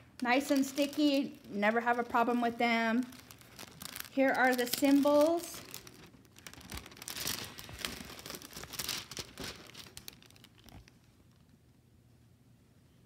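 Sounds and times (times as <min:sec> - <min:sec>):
plastic sheet crinkling: 0:00.2 - 0:11.6.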